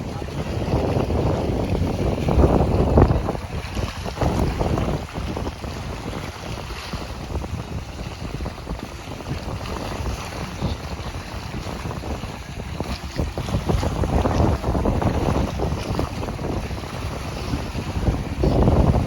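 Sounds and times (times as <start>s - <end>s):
sea waves washing on beach: 0.0s - 19.0s
wind buffeting microphone: 0.0s - 19.0s.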